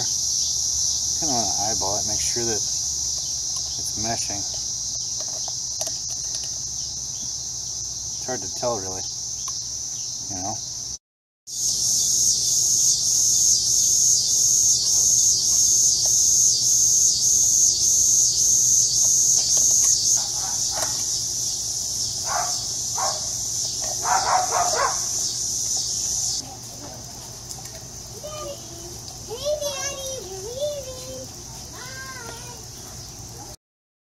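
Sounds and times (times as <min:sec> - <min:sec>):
insect chorus buzzing: 0:00.0 - 0:33.6.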